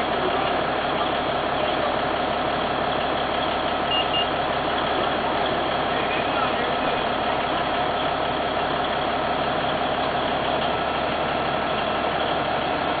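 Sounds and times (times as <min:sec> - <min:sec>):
chairlift machinery running: 0:00.0 - 0:13.0.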